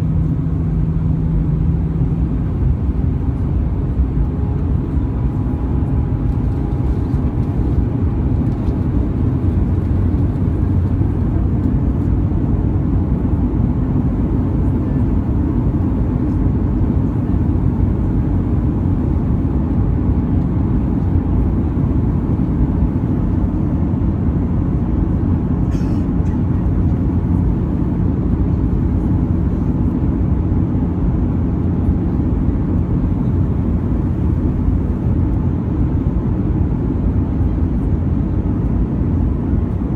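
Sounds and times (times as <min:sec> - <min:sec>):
aircraft engine rumble: 0:00.0 - 0:39.9.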